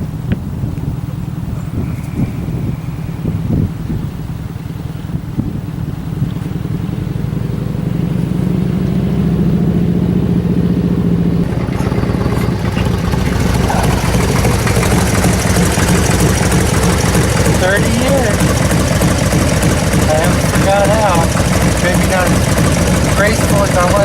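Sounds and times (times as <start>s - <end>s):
engine clatter and hiss: 0.0s - 8.4s, 11.3s - 24.0s
motorcycle engine running: 0.0s - 24.0s.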